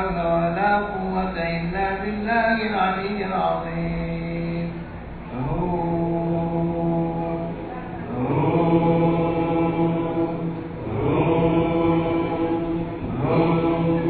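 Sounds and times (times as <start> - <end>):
deep male chanting: 0.0 - 14.0.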